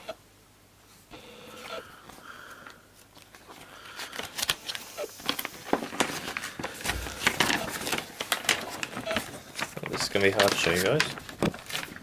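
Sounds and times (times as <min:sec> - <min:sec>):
paper poster crackling and rustling: 0:01.6 - 0:12.0.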